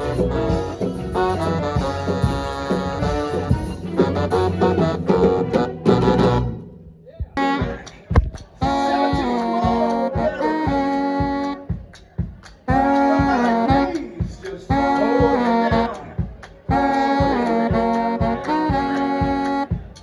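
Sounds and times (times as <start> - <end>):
horns holding chords: 0.0 - 6.8, 7.4 - 12.0, 12.7 - 20.0
swing band playing: 0.0 - 6.8, 7.4 - 20.0.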